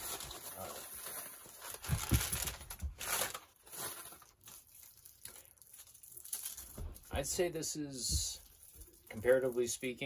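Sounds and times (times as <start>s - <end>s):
paper bag and foil crinkling: 0.0s - 10.0s.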